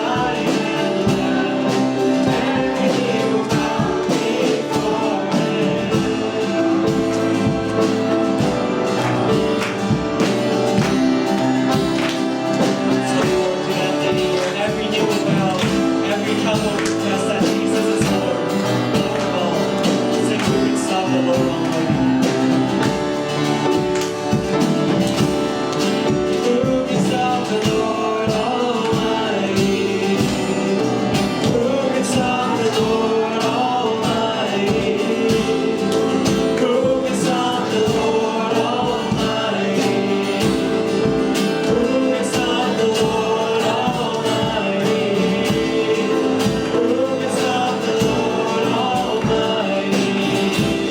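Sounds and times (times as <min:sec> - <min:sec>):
instrumental accompaniment: 0:00.0 - 0:50.9
voices singing gospel: 0:00.0 - 0:50.9.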